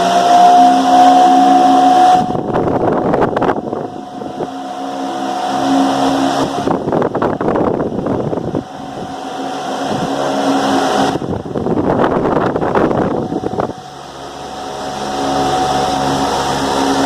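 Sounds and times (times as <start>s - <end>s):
electric fan humming: 0.0s - 17.0s
wind buffeting microphone: 0.0s - 17.0s.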